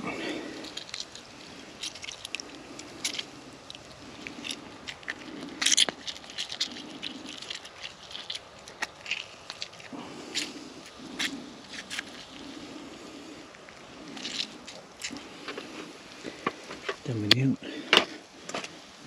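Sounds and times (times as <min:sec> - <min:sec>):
packaging rustling and crackling: 0:00.0 - 0:19.0.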